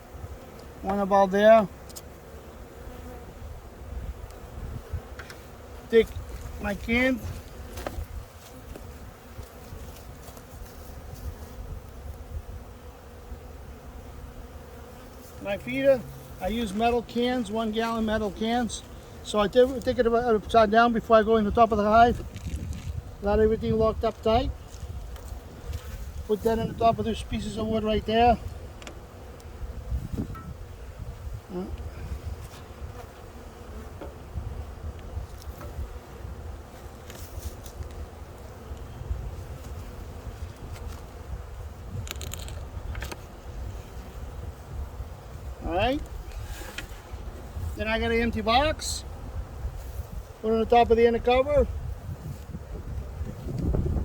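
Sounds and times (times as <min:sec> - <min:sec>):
honeybees buzzing: 0:00.0 - 0:54.0
swooping bee hums: 0:00.0 - 0:54.0.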